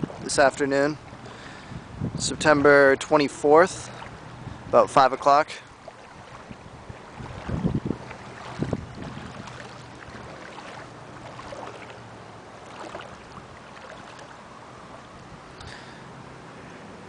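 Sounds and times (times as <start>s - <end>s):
floodwater sloshing: 0.0s - 15.9s
light water splashes: 0.0s - 16.0s.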